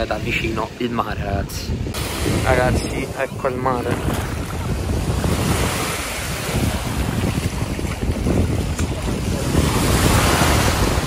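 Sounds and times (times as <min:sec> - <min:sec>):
wind buffeting microphone: 0:00.0 - 0:11.0
small waves washing onto shore: 0:01.7 - 0:11.0.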